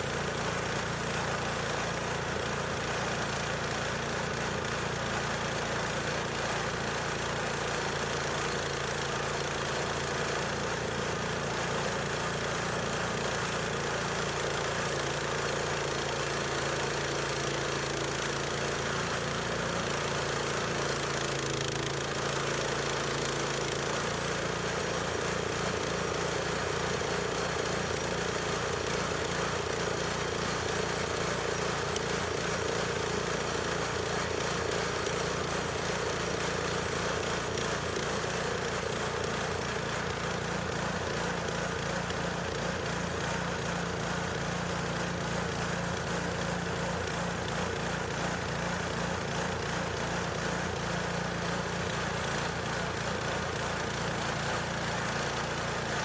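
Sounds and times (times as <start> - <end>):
small gas engine running: 0.0 - 56.0.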